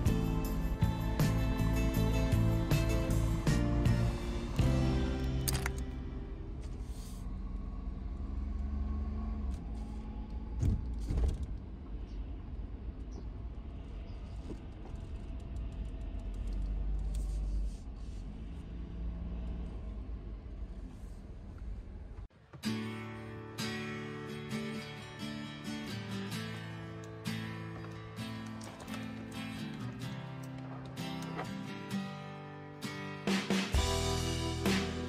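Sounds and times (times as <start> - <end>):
van engine and road noise: 0.0 - 35.0.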